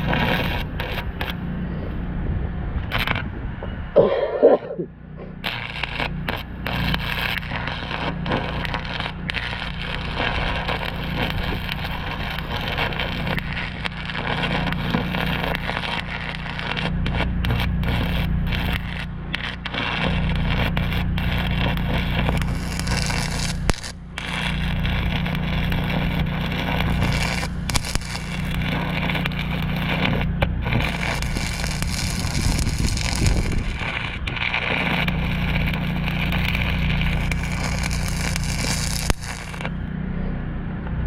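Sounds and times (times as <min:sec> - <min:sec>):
welding arc crackling and sizzling: 0:00.0 - 0:01.6, 0:02.8 - 0:03.7, 0:05.2 - 0:39.9
low hum: 0:00.0 - 0:41.0.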